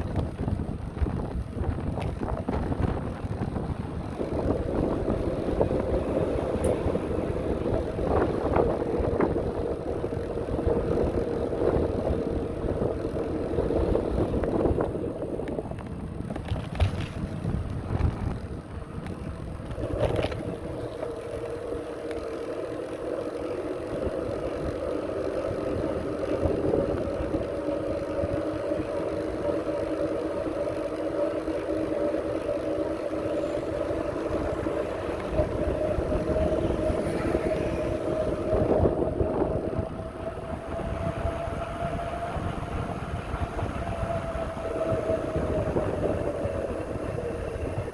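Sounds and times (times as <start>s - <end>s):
moving bicycle hum: 0.0s - 47.9s
wind rumbling on microphone: 0.0s - 47.9s.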